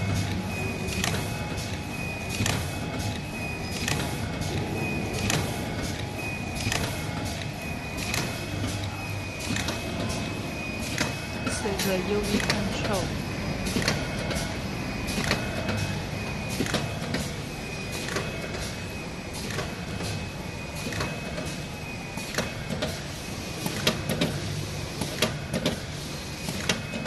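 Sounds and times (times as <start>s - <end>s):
machine hum with high whine: 0.0s - 27.0s.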